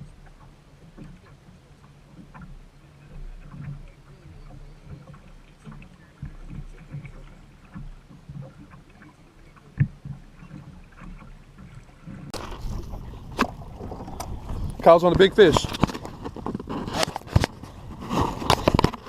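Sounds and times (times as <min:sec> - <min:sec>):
boat low rumble: 0:00.0 - 0:19.0.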